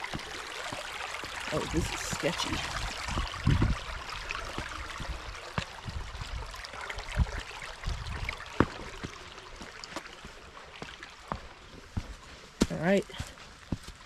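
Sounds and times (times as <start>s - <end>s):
creek water rushing over rocks: 0.0s - 14.0s
footsteps on stones in water: 0.0s - 14.0s.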